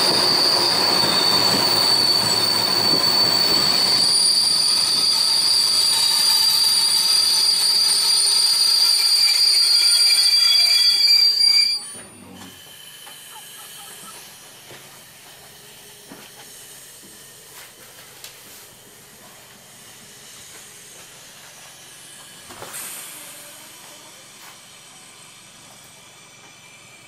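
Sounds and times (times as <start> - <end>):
train hiss inside carriage: 0.0 - 27.0
train rushing: 0.0 - 27.0.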